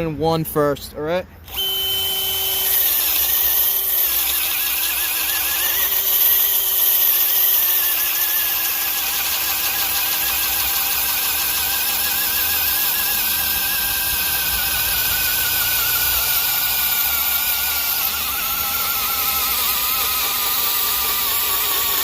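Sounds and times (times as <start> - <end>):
hammer drill motor whine: 1.4 - 22.0.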